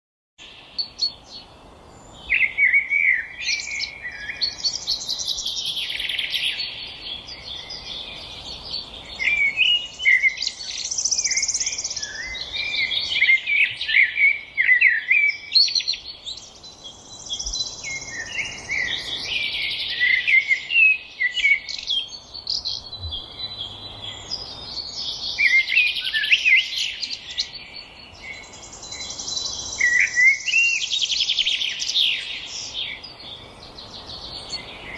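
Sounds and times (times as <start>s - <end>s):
faint steady hiss: 0.4s - 34.9s
songbirds warbling: 0.4s - 34.9s.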